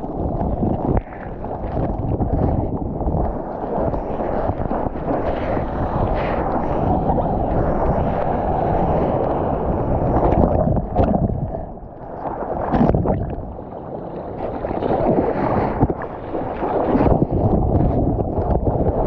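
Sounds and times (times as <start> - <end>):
churning muffled water: 0.0 - 19.0
wave breaking: 0.0 - 19.0
wind buffeting microphone: 0.0 - 19.0.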